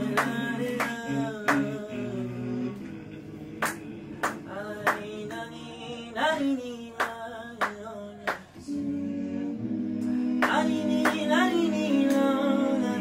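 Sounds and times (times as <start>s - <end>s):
male vocal group singing: 0.0s - 13.0s.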